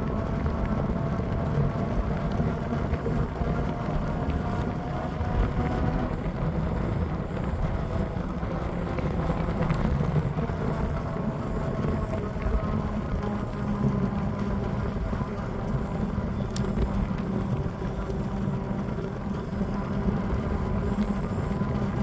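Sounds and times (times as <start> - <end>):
bike ride rumble: 0.0 - 22.0
faint steady tones: 0.0 - 22.0
wind buffeting microphone: 0.0 - 22.0.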